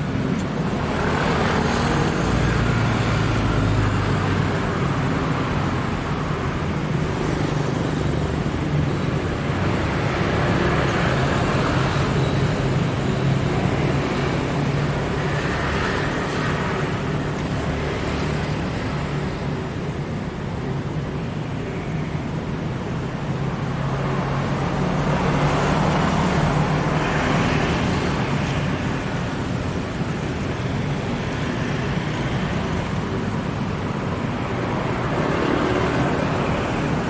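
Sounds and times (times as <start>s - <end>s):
rush of passing traffic: 0.0s - 37.0s.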